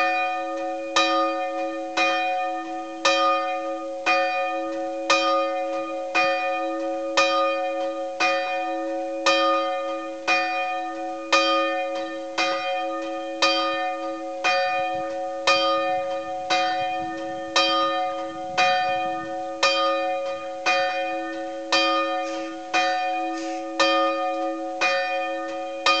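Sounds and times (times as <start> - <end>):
church bell ringing: 0.0 - 26.0.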